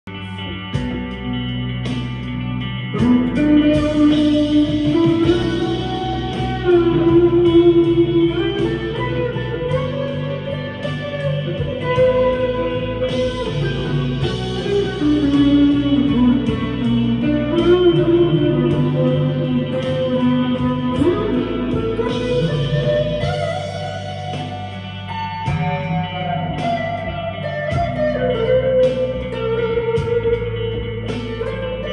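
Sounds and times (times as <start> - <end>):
electric guitar bent notes: 0.1 - 31.9.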